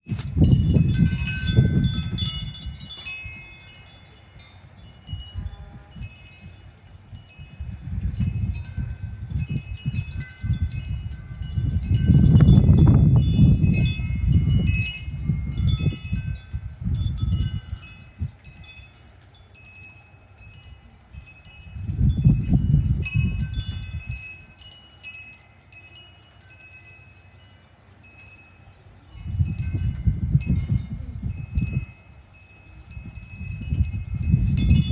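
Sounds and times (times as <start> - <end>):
wind noise on microphone: 0.0 - 27.6, 28.3 - 34.9
wind chimes ringing: 0.0 - 34.9.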